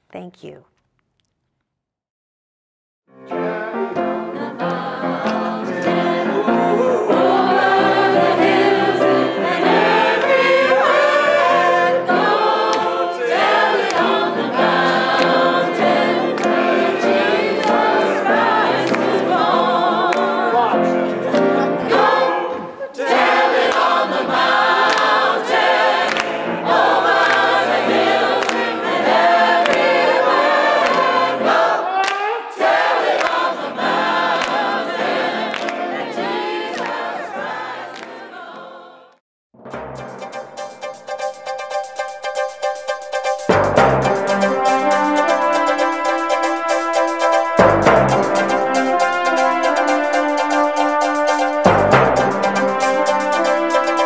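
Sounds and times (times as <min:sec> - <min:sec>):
choir singing gospel: 0:03.3 - 0:39.2, 0:40.0 - 0:54.0.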